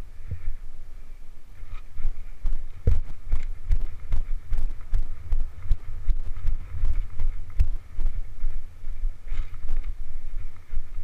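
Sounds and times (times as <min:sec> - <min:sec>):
horse hooves thumping on sand: 0:01.6 - 0:11.0.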